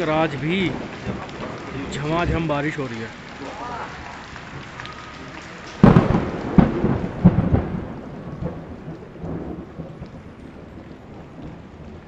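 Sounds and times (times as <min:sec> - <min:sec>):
heavy rain falling: 0:00.0 - 0:12.0
thunder rolling: 0:00.0 - 0:12.0.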